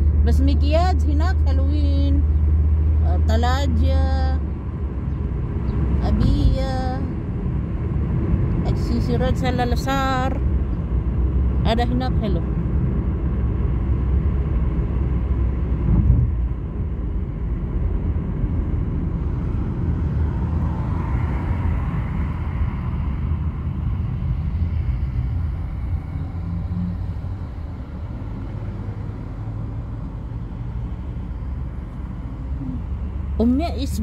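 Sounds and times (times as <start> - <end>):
car cabin road noise: 0.0 - 34.0.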